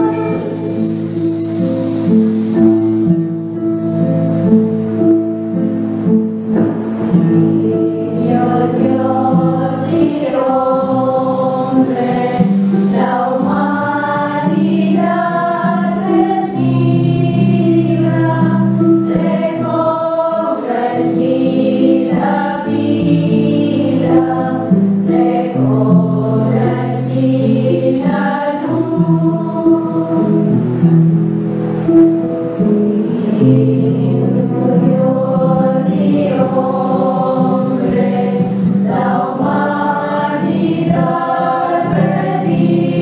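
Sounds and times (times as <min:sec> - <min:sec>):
women's choir singing a carol: 0:00.0 - 0:03.4, 0:06.6 - 0:30.6, 0:32.6 - 0:43.0.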